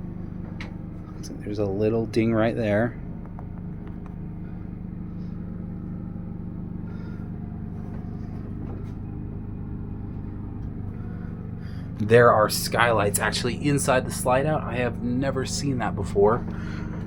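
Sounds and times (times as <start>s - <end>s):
portable generator humming: 0.0s - 17.0s.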